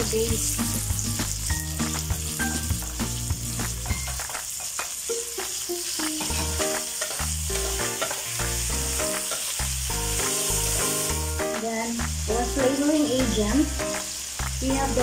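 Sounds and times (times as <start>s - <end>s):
background music with bass line: 0.0s - 4.2s, 6.0s - 15.0s
vegetables sizzling in hot oil: 0.0s - 15.0s.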